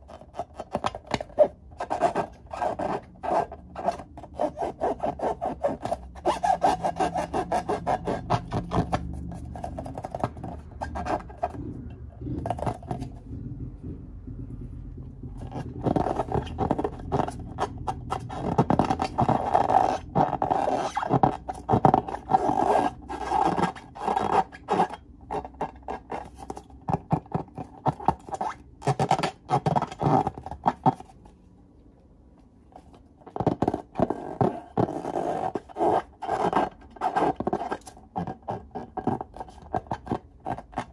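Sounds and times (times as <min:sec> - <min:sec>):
hands rubbing latex balloons: 0:00.0 - 0:31.3, 0:32.8 - 0:40.9.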